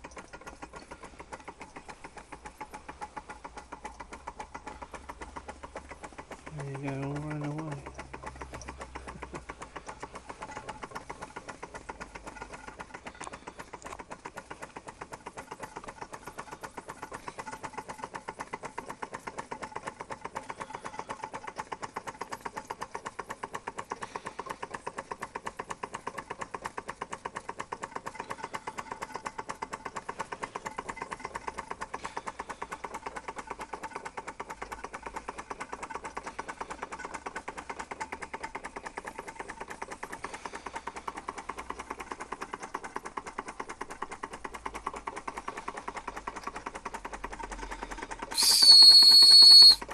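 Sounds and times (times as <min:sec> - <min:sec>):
toy steam engine clicking: 0:00.0 - 0:49.9.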